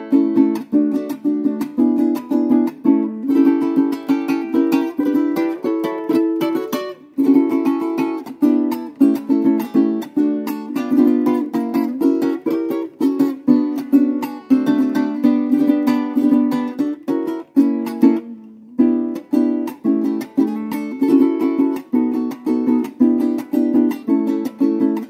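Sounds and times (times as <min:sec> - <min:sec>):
cuatro strummed rhythmically: 0:00.0 - 0:25.0.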